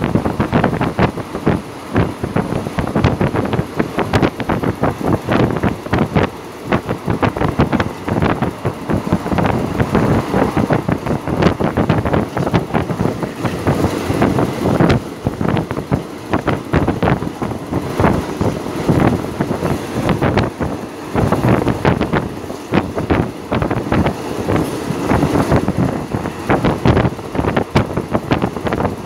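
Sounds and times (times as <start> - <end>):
train rumble: 0.0 - 29.0
wind buffeting microphone: 0.0 - 29.0.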